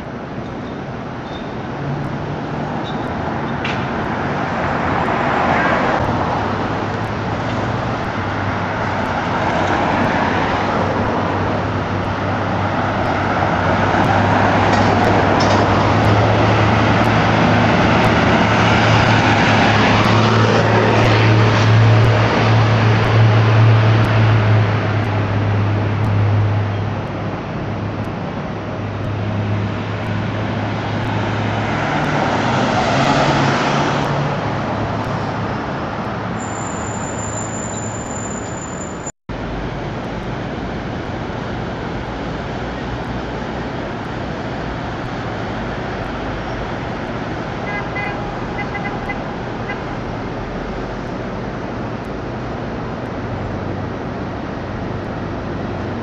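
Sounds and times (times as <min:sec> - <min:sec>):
street traffic passing: 0:00.0 - 0:56.0.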